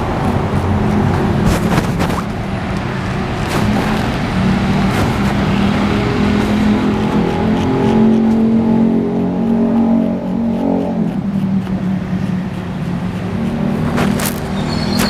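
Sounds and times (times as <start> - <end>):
road traffic: 0.0 - 15.0
vehicles passing: 0.0 - 15.0.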